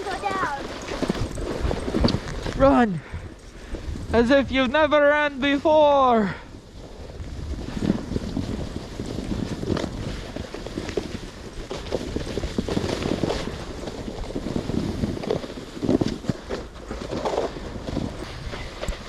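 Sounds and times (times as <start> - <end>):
snow crunching: 0.0 - 19.0
snowboard sliding over snow: 0.0 - 19.0
wind buffeting microphone: 0.0 - 19.0.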